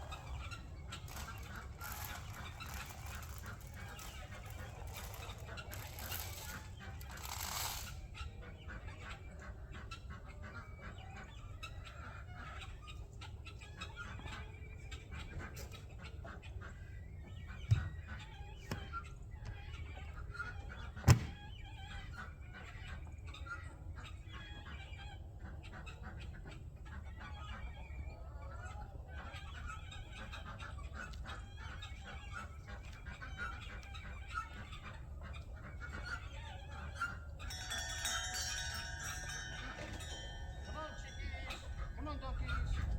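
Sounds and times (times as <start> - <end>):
chickens ducks and guinea fowl calling: 0.0 - 42.9.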